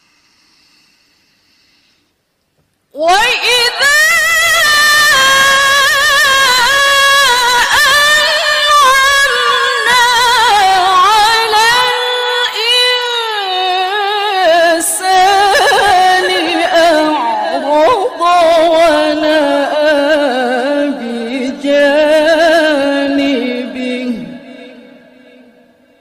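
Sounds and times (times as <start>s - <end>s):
woman chanting melodically: 3.0s - 26.0s.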